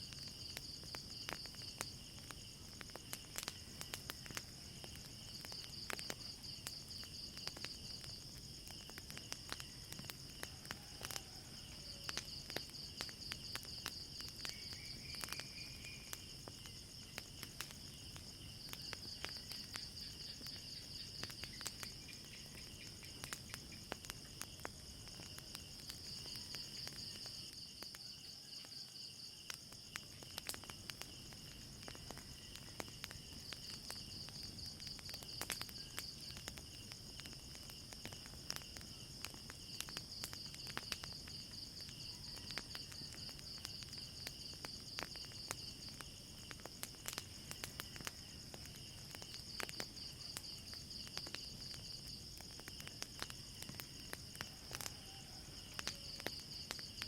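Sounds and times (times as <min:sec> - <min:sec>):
crickets chirping: 0:00.0 - 0:57.0
wood fire crackling: 0:00.0 - 0:57.0.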